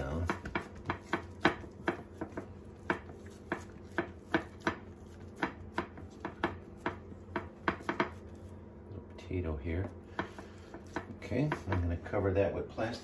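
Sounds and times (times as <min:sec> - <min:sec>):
hands slapping sticky dough: 0:00.0 - 0:08.6, 0:10.1 - 0:12.0.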